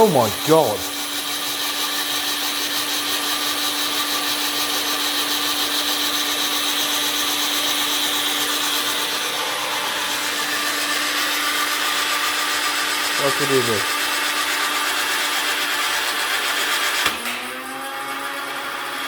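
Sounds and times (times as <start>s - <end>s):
toy gun motor whirring: 0.0s - 19.0s.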